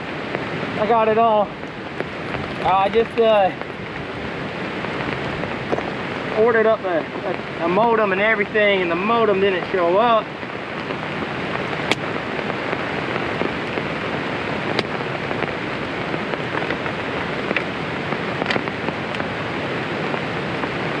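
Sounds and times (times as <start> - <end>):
heavy rain: 0.0 - 21.0
wind: 0.0 - 21.0.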